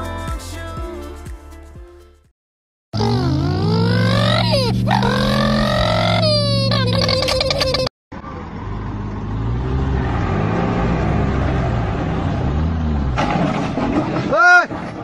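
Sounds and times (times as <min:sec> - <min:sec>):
tractor engine labouring: 0:03.0 - 0:15.0.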